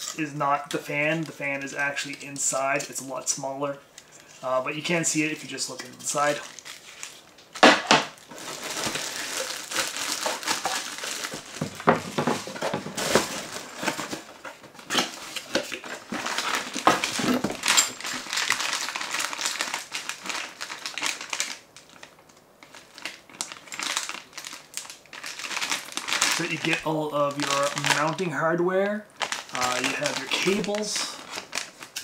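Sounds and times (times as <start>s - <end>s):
cardboard and plastic crinkling: 4.0s - 32.0s.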